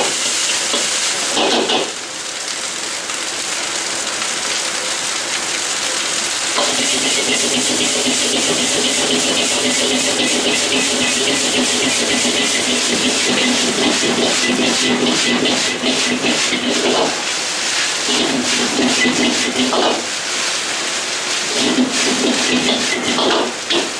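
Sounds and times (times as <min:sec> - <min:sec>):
gas burner roaring: 0:00.0 - 0:02.2, 0:05.8 - 0:23.9
rice sizzling in a wok: 0:00.0 - 0:04.4, 0:06.1 - 0:23.9.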